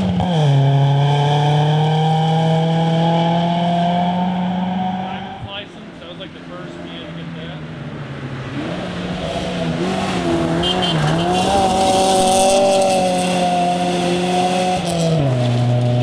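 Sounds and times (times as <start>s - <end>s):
rally car engine at high revs: 0.0s - 5.5s, 8.1s - 16.0s.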